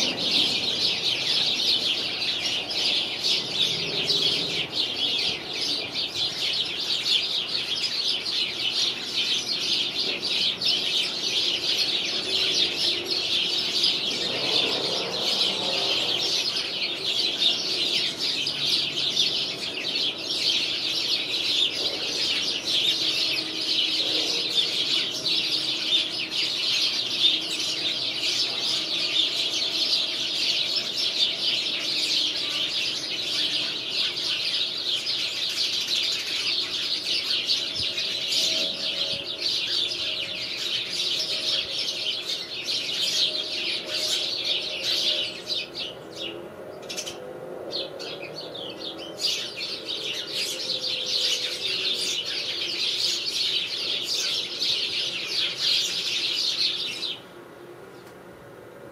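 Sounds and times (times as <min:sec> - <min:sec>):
sparrows chirping: 0:00.0 - 0:58.9.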